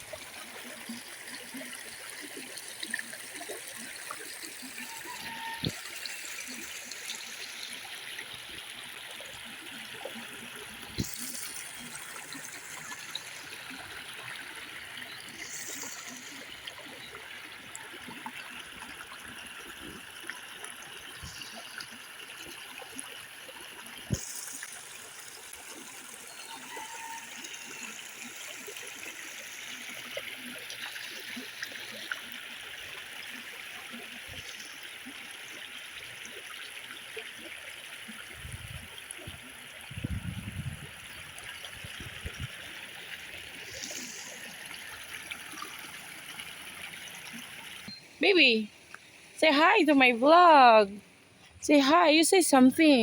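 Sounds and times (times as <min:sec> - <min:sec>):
river water running: 0:00.0 - 0:53.0.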